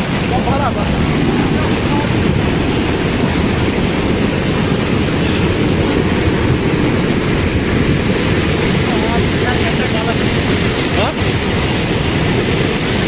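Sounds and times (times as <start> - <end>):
floodwater rushing in a stream: 0.0 - 13.0.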